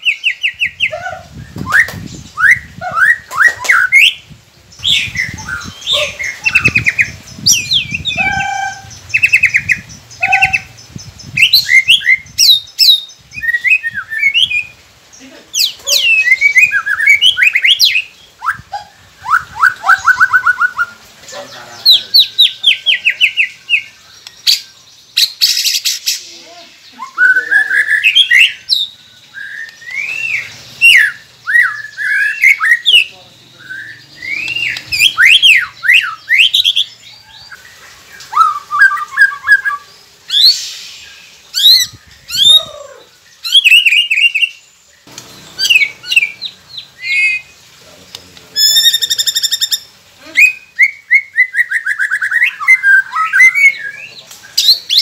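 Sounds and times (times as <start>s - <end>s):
bird singing whistled song: 0.0s - 14.8s, 15.6s - 21.0s, 26.9s - 37.6s, 38.2s - 44.6s, 45.2s - 47.5s, 48.6s - 55.0s.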